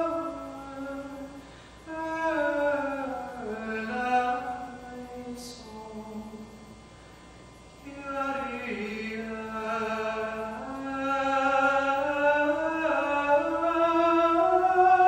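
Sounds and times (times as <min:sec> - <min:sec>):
man singing chant: 0:00.0 - 0:01.3, 0:01.9 - 0:06.6, 0:07.8 - 0:15.0.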